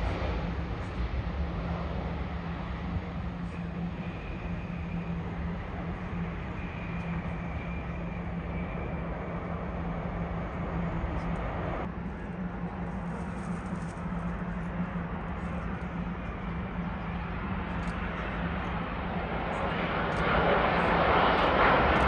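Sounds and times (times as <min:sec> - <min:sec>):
distant jet engines rumbling: 0:00.0 - 0:22.0.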